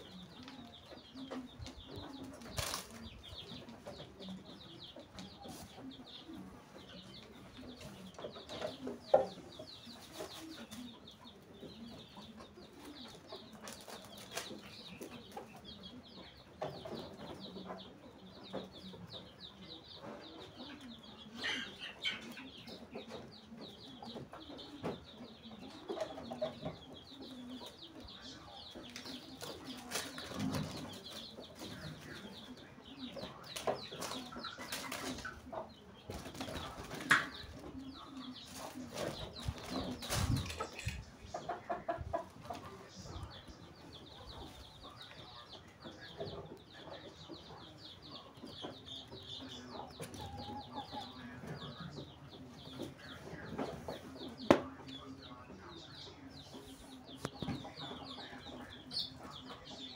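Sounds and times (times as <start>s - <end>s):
birds chirping and clucking: 0.0s - 59.9s.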